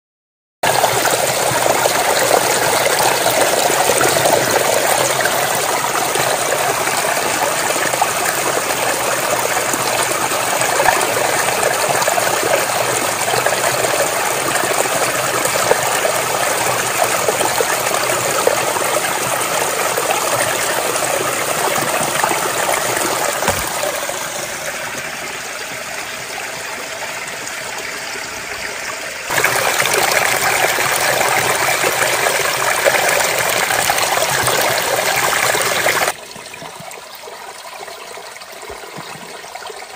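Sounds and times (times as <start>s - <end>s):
water trickling over rocks: 0.7s - 39.9s.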